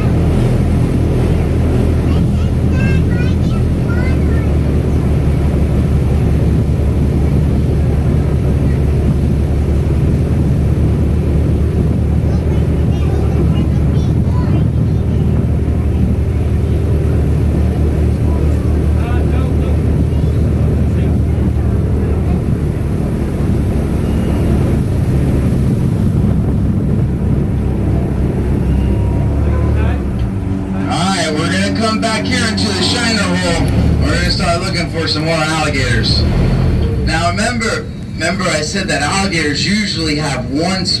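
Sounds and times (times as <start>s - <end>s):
airboat engine and propeller drone: 0.0s - 41.0s.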